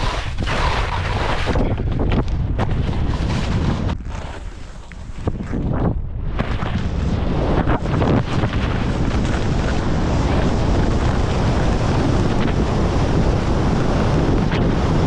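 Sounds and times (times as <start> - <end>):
wind buffeting microphone: 0.0 - 4.3, 5.0 - 15.0
skis scraping over snow: 0.0 - 15.0.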